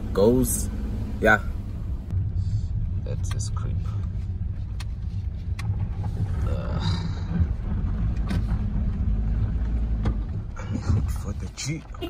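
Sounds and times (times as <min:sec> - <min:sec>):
car engine rumble and road noise: 0:00.0 - 0:12.0.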